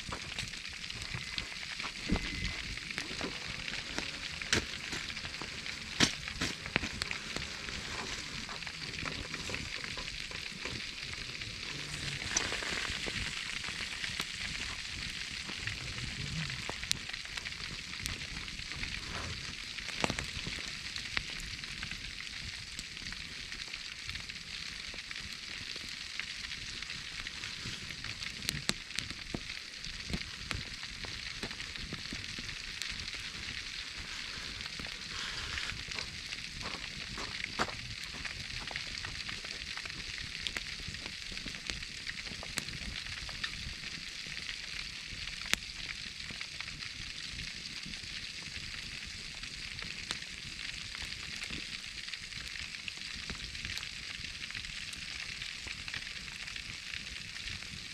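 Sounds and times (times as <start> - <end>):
pork belly sizzling in fire: 0.0 - 57.9
sharp pops and crackles: 0.0 - 57.9.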